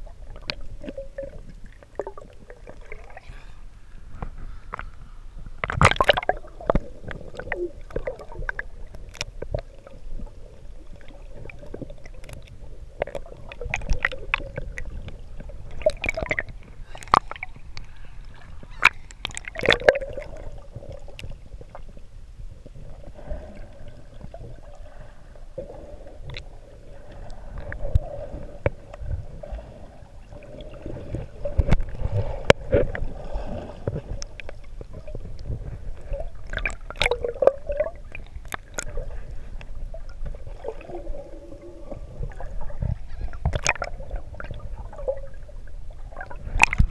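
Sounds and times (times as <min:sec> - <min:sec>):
water splashes: 0:00.0 - 0:03.4, 0:05.6 - 0:22.0, 0:22.8 - 0:46.9
water sloshing and gurgling: 0:00.0 - 0:46.9.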